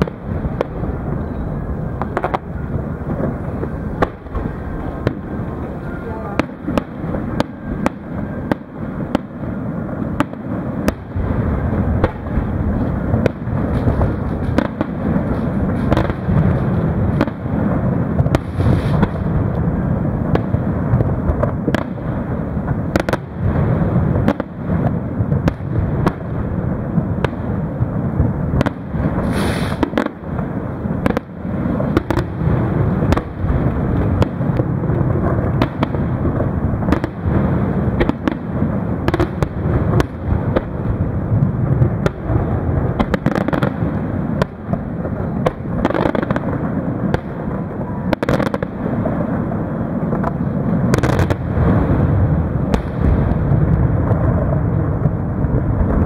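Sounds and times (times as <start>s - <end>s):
firework bangs: 0.0s - 56.0s.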